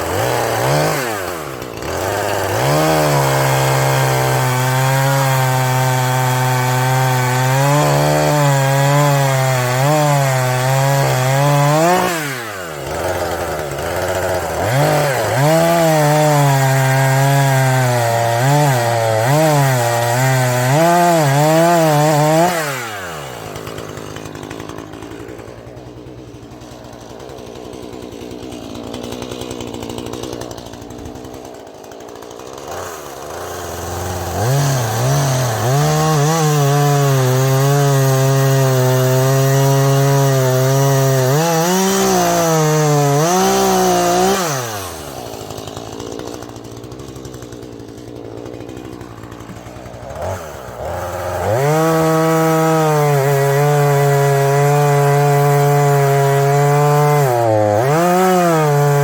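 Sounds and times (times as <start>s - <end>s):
chainsaw cutting at high revs: 0.0s - 59.0s.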